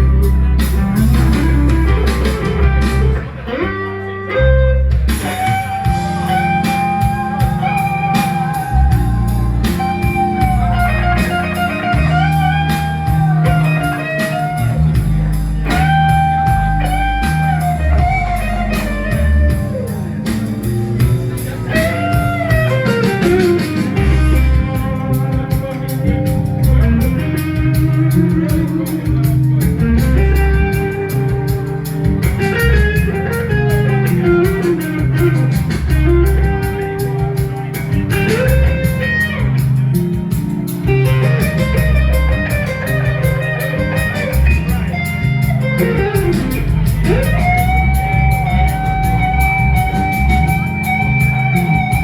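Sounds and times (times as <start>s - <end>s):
blues-rock band playing: 0.0s - 52.0s
electric guitar held notes: 0.0s - 52.0s.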